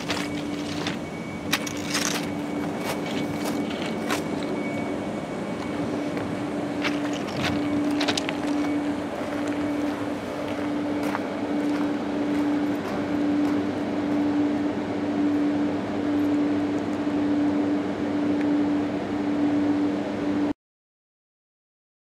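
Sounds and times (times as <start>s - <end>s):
freight train rumbling: 0.0s - 19.1s
steady hum: 0.0s - 20.6s.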